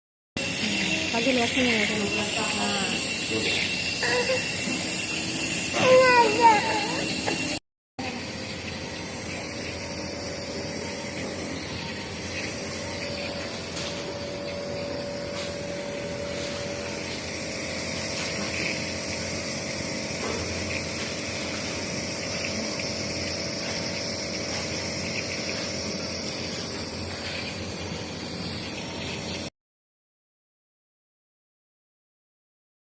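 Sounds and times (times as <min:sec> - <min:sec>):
nebulizer motor hum with hiss: 0:00.4 - 0:29.5.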